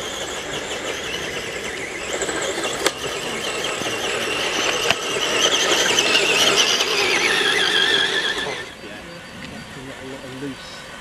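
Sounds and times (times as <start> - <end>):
electric motor and gears whining: 0.0 - 11.0.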